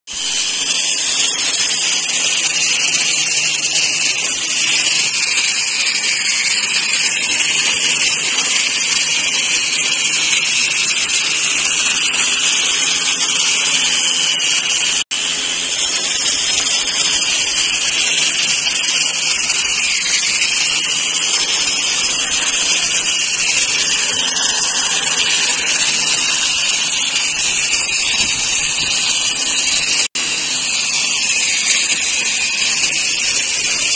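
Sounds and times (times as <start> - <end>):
electric grinder sanding stone: 0.1 - 33.9.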